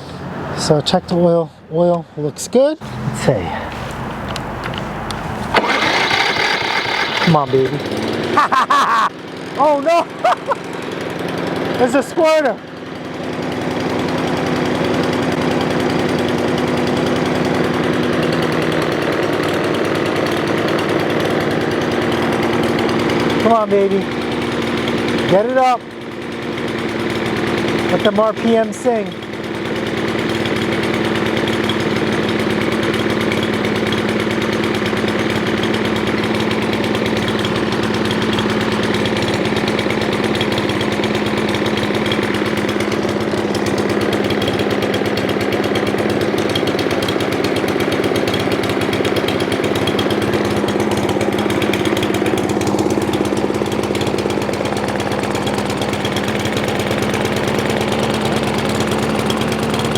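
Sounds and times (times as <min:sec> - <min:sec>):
lawn mower engine running: 0:02.8 - 0:59.9.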